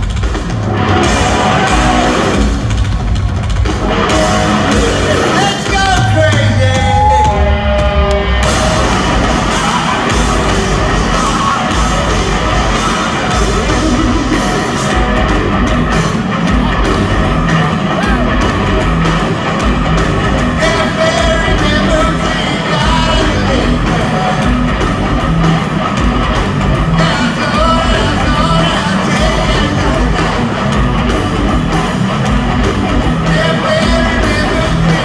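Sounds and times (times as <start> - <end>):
distorted electric guitar: 0.0 - 35.0
drums: 0.0 - 35.0.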